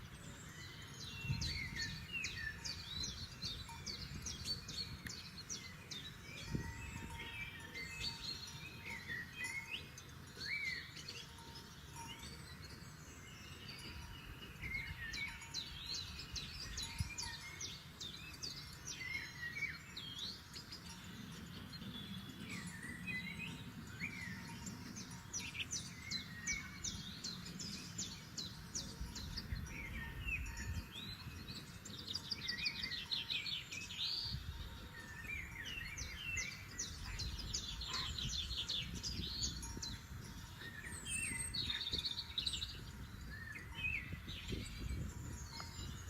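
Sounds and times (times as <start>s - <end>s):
songbirds singing and calling: 0.0s - 46.0s.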